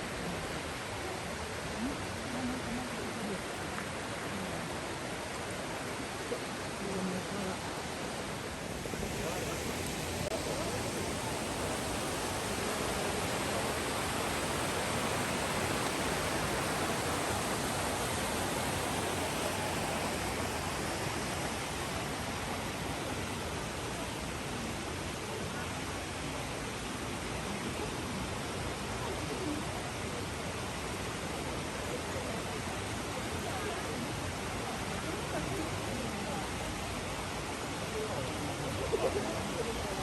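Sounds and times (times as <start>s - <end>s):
faint distant voices: 0.0s - 40.0s
flowing water rushing: 0.0s - 40.0s.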